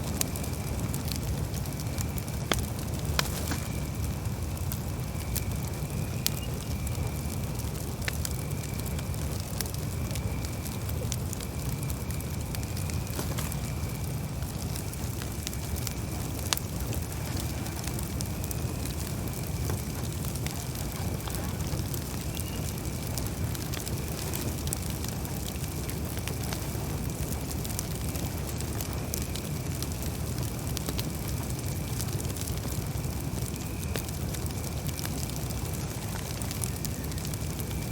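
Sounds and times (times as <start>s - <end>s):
campfire crackling: 0.0s - 37.9s
low rumble of flames: 0.0s - 37.9s.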